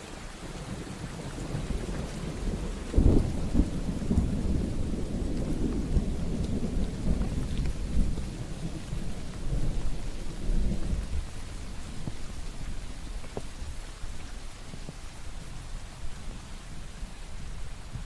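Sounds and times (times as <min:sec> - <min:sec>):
steady rain: 0:00.0 - 0:18.0
low rumble of thunder: 0:00.3 - 0:18.0.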